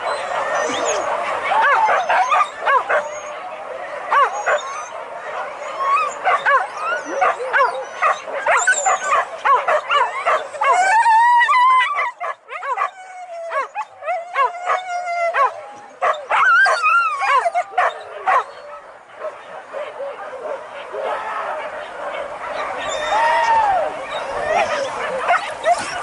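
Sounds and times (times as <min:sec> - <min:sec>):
dogs barking and yelping: 0:00.0 - 0:26.0.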